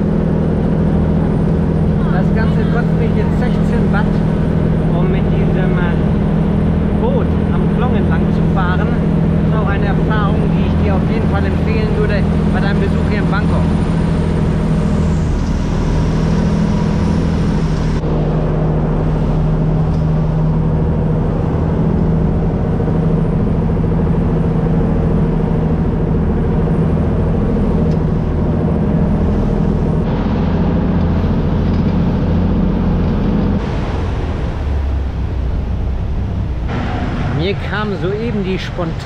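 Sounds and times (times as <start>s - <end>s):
low vehicle engine drone: 0.0s - 39.0s.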